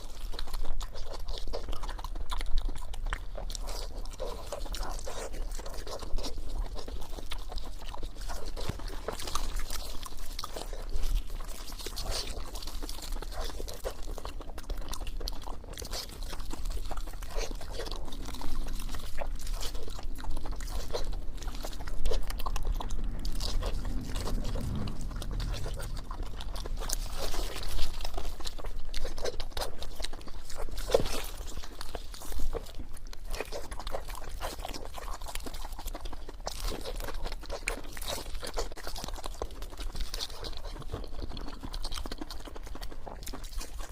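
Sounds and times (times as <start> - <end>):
chewing crunchy food: 0.0 - 43.9.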